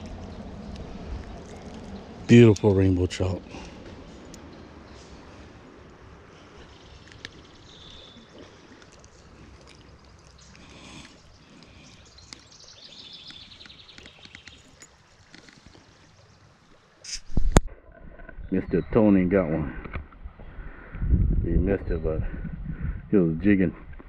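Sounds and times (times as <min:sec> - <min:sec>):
faint stream flowing: 0:00.0 - 0:21.0.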